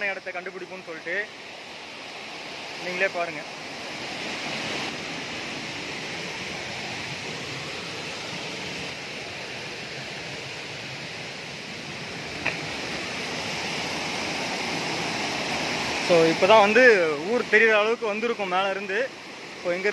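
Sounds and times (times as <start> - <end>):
waterfall rushing over rocks: 0.0 - 19.9.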